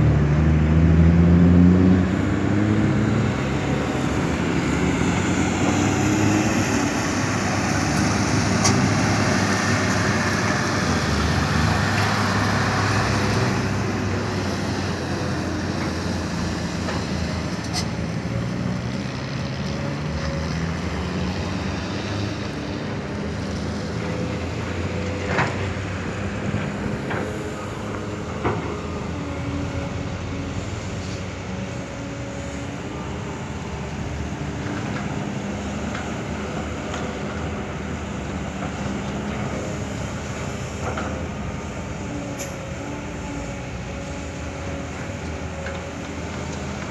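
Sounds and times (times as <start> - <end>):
heavy diesel engines running: 0.0 - 46.9.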